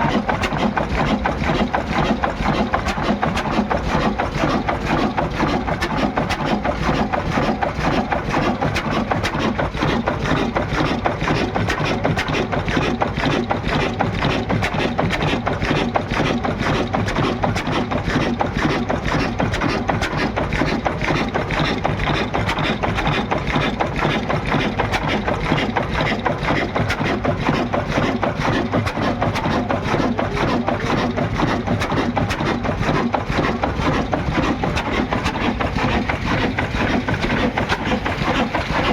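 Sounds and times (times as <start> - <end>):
diesel engine knocking clatter: 0.0 - 38.9.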